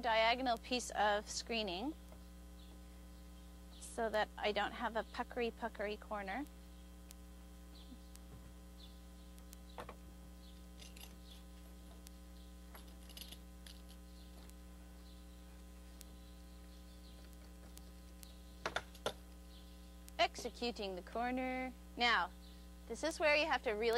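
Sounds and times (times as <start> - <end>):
electrical mains hum: 0.0 - 23.9.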